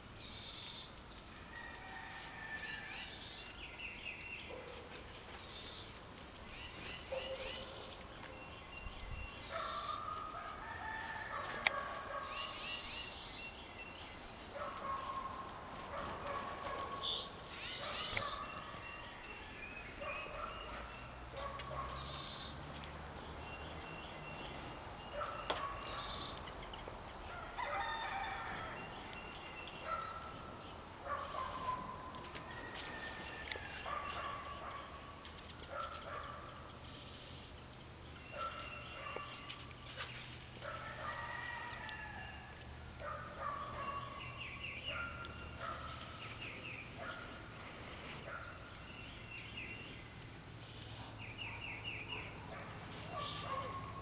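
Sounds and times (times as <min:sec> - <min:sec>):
birds chipping: 0:00.0 - 0:54.0.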